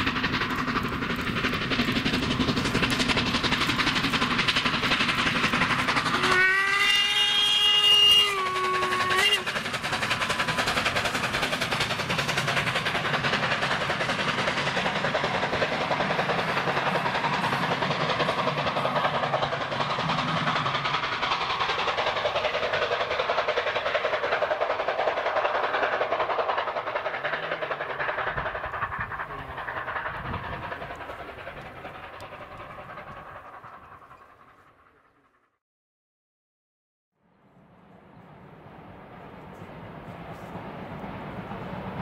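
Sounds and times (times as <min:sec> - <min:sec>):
train clattering on rails: 0:00.0 - 0:35.1.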